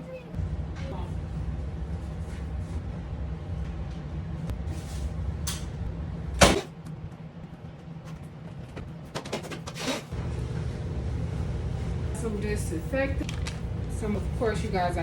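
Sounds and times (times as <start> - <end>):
steady low hum: 0.3 - 9.2, 10.1 - 15.0.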